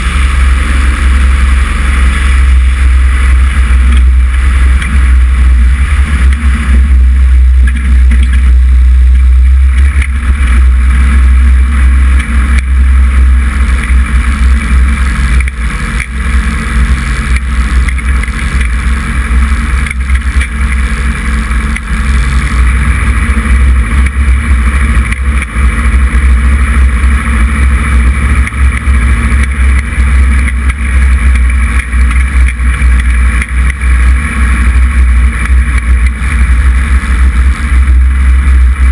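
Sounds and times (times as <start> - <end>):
propeller plane engine running: 0.0 - 38.9
wind rumble on microphone: 0.0 - 38.9.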